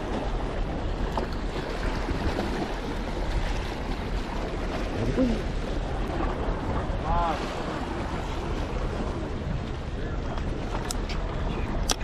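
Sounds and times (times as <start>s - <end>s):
waves: 0.0s - 12.0s
wind: 0.0s - 12.0s
wind rumbling on microphone: 0.0s - 12.0s.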